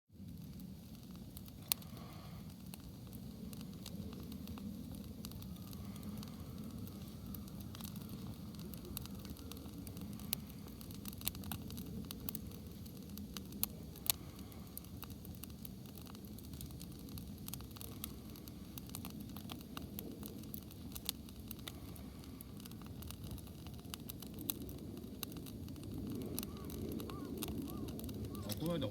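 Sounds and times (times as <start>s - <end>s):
campfire crackling: 0.1s - 28.9s
low rush of flame: 0.1s - 28.9s
sharp pops of fire: 0.2s - 28.9s.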